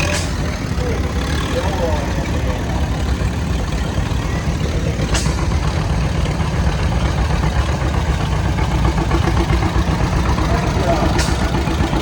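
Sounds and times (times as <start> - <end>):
tractor engines running: 0.0 - 12.0.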